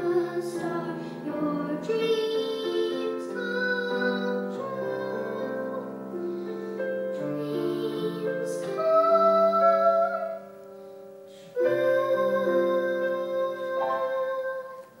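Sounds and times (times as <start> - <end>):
piano accompaniment: 0.0 - 15.0.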